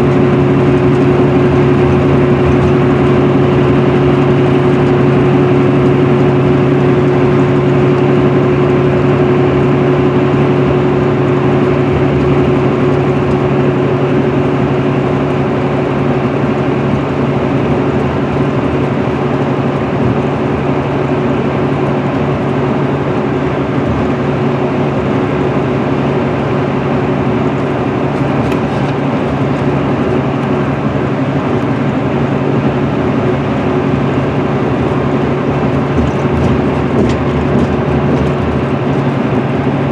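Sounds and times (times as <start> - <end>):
bus engine hum: 0.0 - 39.9
tyre and road noise: 0.0 - 39.9.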